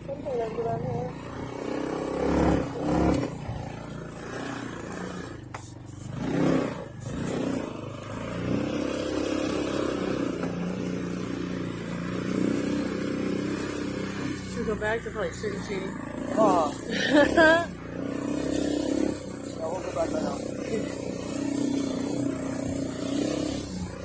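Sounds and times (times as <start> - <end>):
motor engine running: 0.0 - 24.0.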